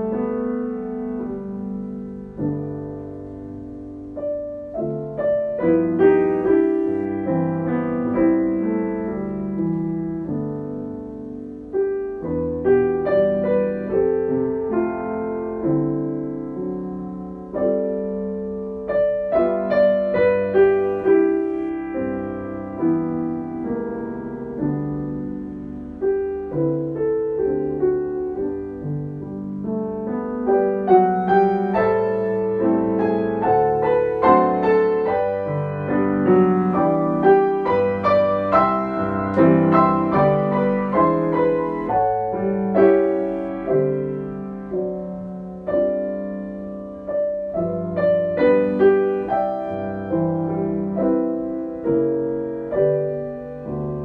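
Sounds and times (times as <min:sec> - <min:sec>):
slow gentle solo piano: 0:00.0 - 0:54.0.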